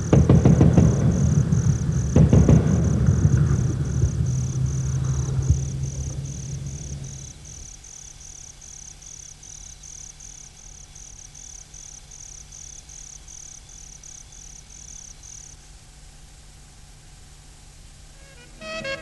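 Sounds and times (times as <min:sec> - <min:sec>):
faint low hum: 0:00.0 - 0:19.0
insect chirping: 0:00.0 - 0:19.0.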